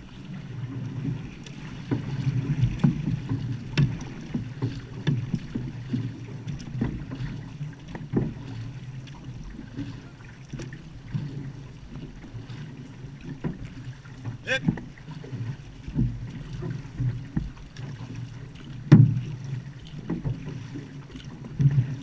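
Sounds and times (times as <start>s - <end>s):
low rumble of water: 0.0s - 22.0s
paddles splashing in water: 0.0s - 22.0s.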